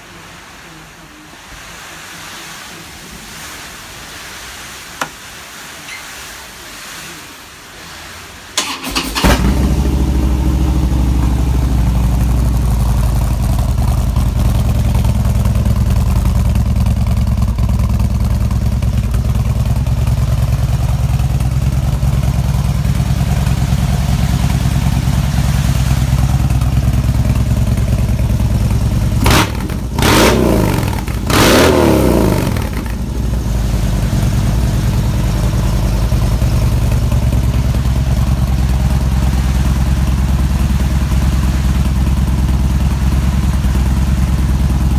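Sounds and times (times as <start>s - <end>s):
motorcycle engine idling: 8.6s - 44.9s
motorcycle throttle blips: 8.6s - 44.9s.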